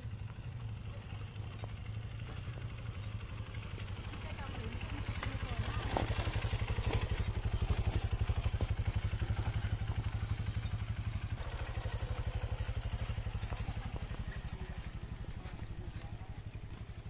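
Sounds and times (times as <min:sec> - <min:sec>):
motorcycle engine puttering: 0:00.0 - 0:17.0.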